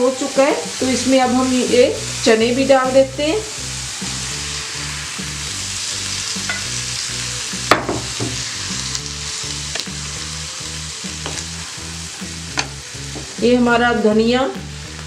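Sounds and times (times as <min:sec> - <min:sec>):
chickpeas sizzling in a pan: 0:00.0 - 0:15.0.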